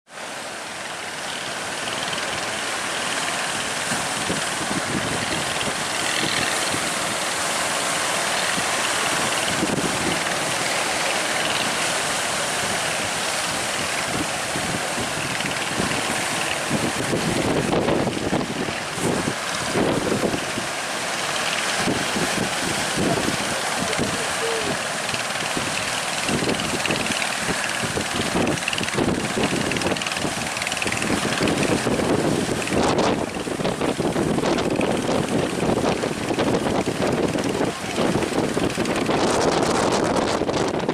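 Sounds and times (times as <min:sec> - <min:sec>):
boat engine running: 0:00.1 - 0:40.9
wind buffeting microphone: 0:01.7 - 0:40.9.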